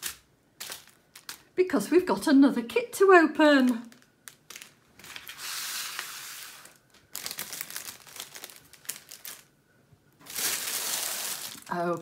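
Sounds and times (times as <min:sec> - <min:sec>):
plastic packaging crinkling: 0:00.0 - 0:01.6, 0:03.6 - 0:12.0.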